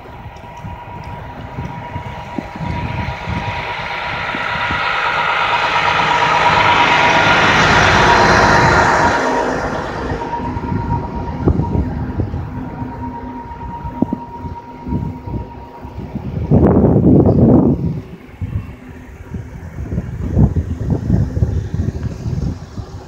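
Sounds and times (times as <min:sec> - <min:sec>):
thin steady whine: 0:00.0 - 0:23.0
vehicle and road noise: 0:00.0 - 0:23.0.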